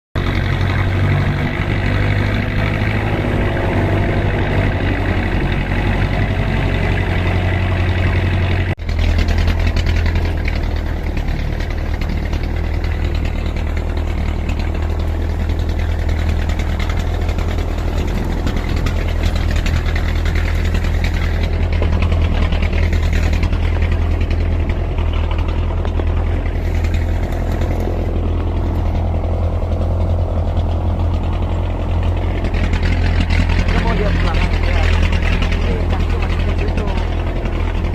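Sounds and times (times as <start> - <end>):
vehicle engine running: 0.2 - 37.9.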